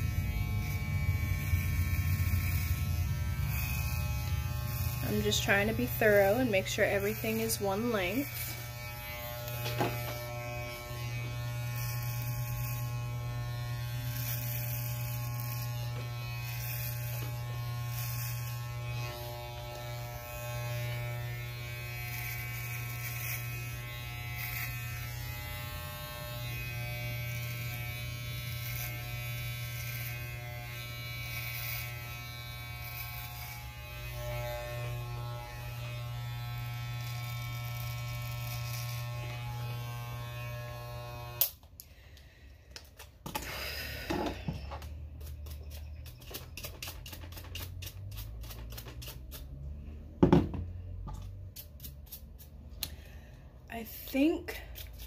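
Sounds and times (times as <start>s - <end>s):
electric hair clippers buzzing: 0.0s - 42.2s, 42.8s - 49.6s.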